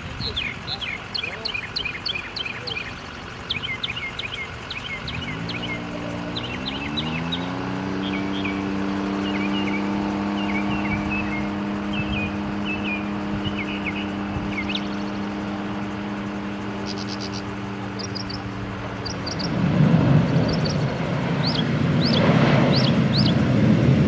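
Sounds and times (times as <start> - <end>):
small birds chirping: 0.0 - 23.6
propeller drone: 0.0 - 24.0.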